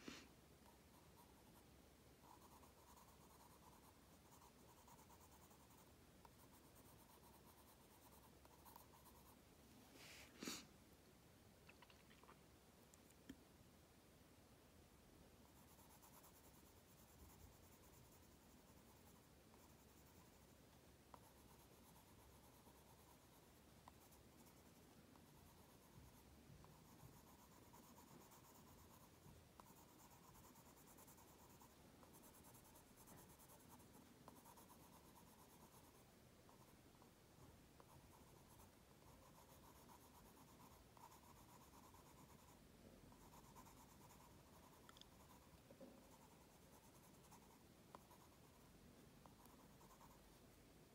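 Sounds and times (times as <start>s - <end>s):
pencil scratching on card: 0.0s - 9.4s, 15.5s - 20.5s, 21.1s - 36.8s, 37.8s - 50.3s.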